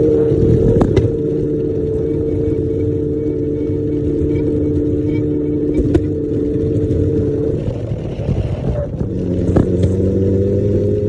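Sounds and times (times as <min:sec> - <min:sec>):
vehicle motor humming: 0:00.0 - 0:11.0.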